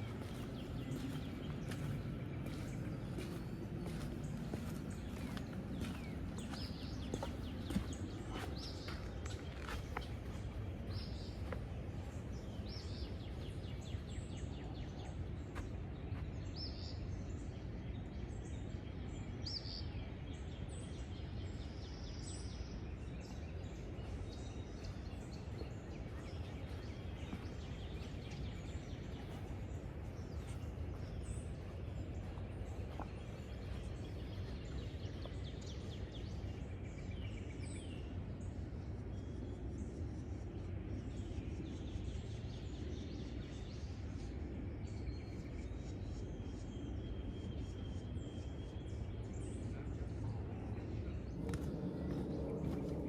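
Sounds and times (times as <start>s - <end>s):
birds chirping: 0.0s - 53.0s
low outdoor background noise: 0.0s - 53.0s.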